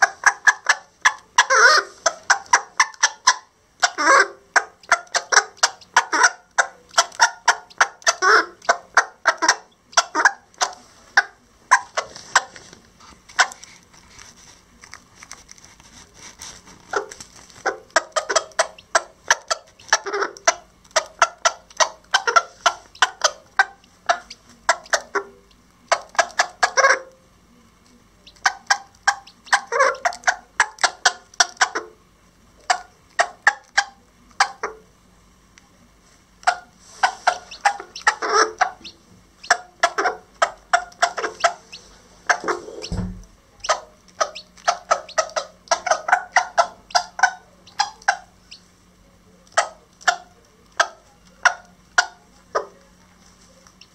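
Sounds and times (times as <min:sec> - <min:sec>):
hen clucking: 0:00.0 - 0:13.8, 0:16.1 - 0:27.1, 0:28.1 - 0:34.9, 0:36.3 - 0:48.8, 0:49.4 - 0:52.8, 0:53.6 - 0:53.9.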